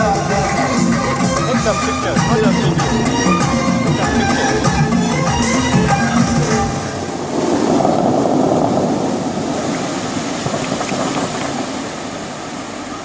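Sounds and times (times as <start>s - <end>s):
fountain water jets rushing: 0.0s - 13.0s.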